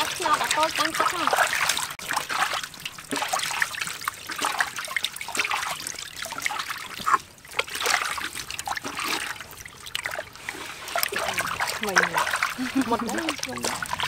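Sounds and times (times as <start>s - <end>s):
water running off into basin: 0.0s - 14.0s
water splashing in metal basin: 0.0s - 14.0s.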